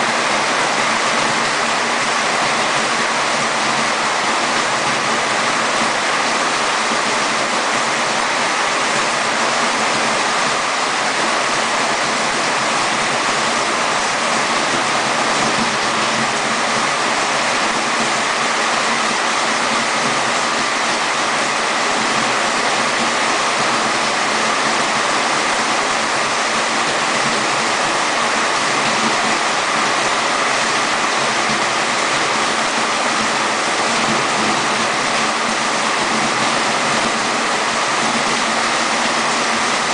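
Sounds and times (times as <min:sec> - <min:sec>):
heavy rain rushing: 0:00.0 - 0:39.9.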